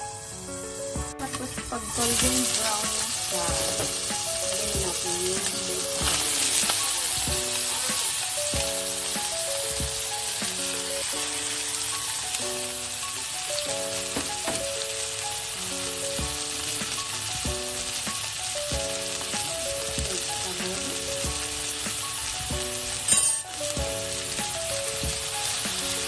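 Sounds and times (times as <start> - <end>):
food sizzling in a frying pan: 0.0 - 26.0
light background music: 0.0 - 26.0.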